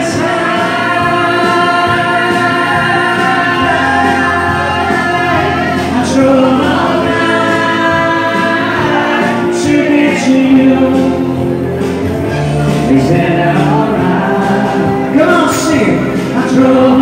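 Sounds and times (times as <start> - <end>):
man singing into a microphone: 0.0 - 11.8, 12.6 - 17.0
people singing along: 0.0 - 17.0
pop backing track: 0.0 - 17.0.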